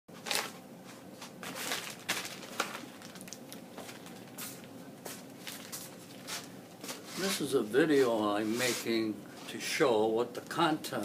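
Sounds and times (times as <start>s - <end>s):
packaging rustling and crinkling: 0.1s - 9.0s
faint steady hum: 0.1s - 11.0s.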